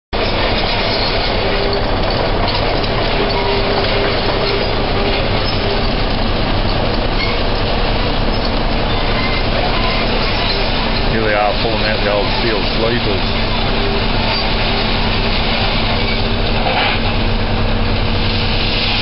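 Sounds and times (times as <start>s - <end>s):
heavy vehicle engine drone: 0.2s - 19.0s.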